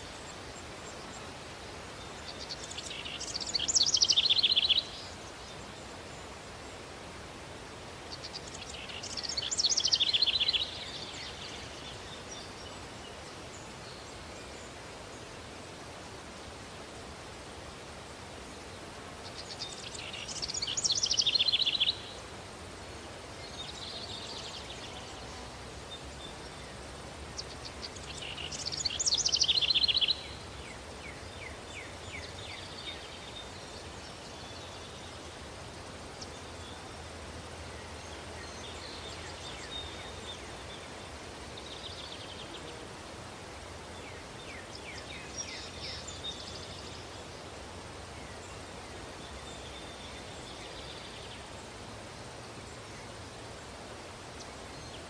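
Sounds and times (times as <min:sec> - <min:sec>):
birds and insects calling: 0:00.0 - 0:15.8, 0:17.9 - 0:55.0
breeze hiss: 0:00.0 - 0:55.0.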